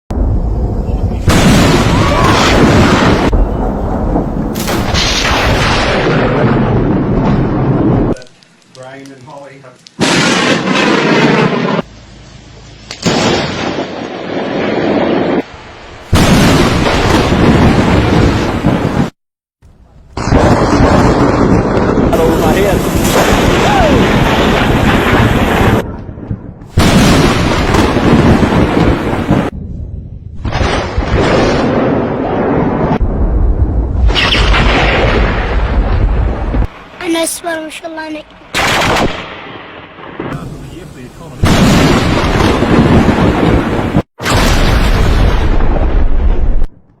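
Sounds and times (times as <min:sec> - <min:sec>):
thunder crack and rolling rumble: 0:00.1 - 0:08.2, 0:10.0 - 0:11.9, 0:16.1 - 0:19.2, 0:20.0 - 0:37.0, 0:38.4 - 0:46.9.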